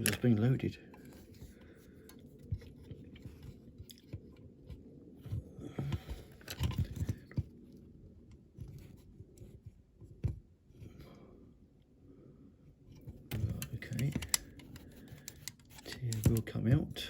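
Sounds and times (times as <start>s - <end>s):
light clicks and scrapes: 0.0s - 11.1s, 12.9s - 17.0s.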